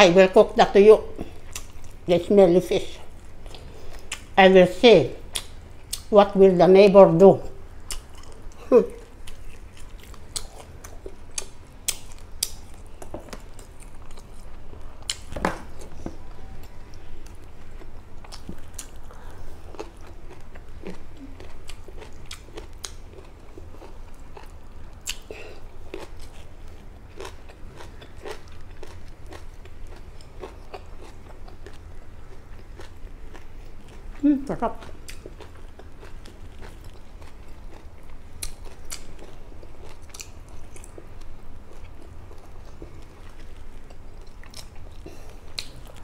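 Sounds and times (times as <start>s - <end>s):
low steady hum: 0.0s - 46.0s
person chewing food: 1.1s - 2.1s, 3.0s - 4.4s, 7.5s - 46.0s.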